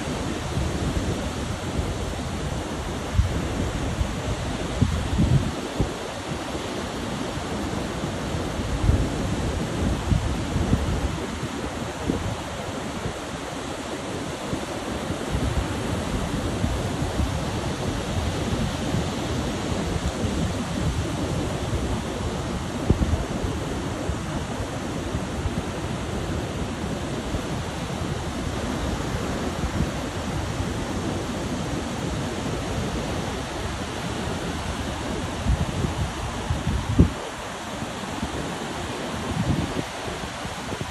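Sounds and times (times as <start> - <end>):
surf breaking on beach: 0.0 - 40.9
wind buffeting microphone: 0.0 - 40.9.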